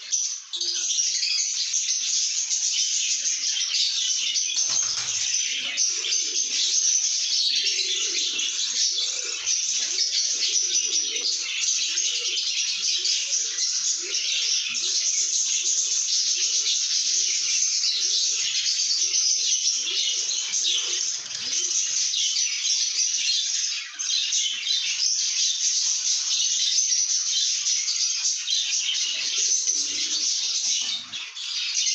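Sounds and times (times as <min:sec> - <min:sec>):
birds twittering: 0:00.0 - 0:31.9.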